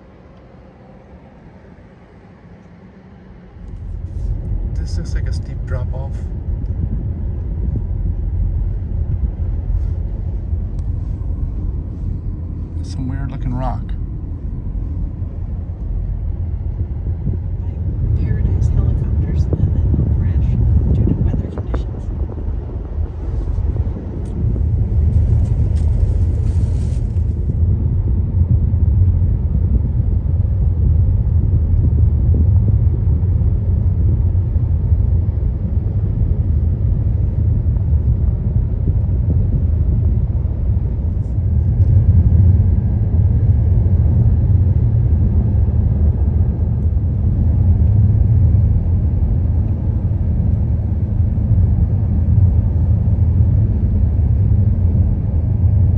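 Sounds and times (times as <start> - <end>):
road rumble inside moving car: 0.0 - 55.9.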